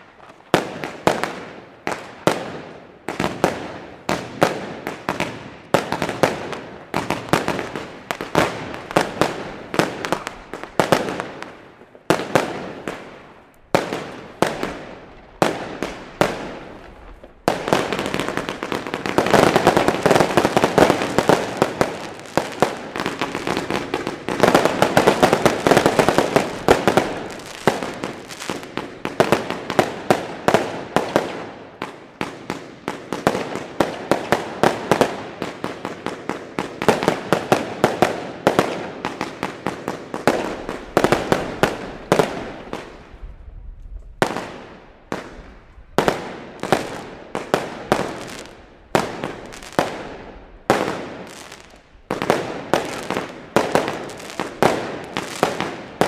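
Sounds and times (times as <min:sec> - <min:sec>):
fireworks bursting with bangs and crackling: 0:00.0 - 0:56.0.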